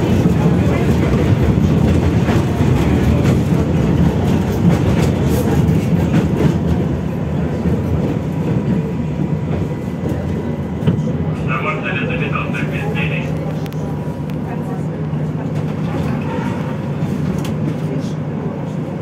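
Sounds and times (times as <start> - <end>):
rail clicks: 0.0 - 18.2
tram rail rumble: 0.0 - 19.0.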